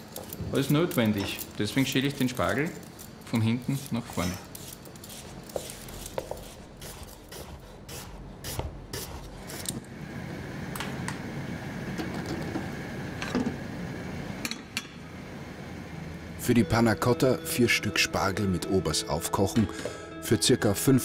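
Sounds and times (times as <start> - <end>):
gas burner flame hissing: 0.0 - 19.7.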